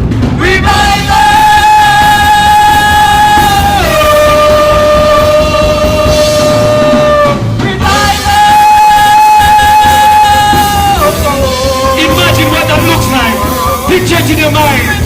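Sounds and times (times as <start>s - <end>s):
band playing worship music: 0.0s - 15.0s
person singing long notes: 1.2s - 14.3s.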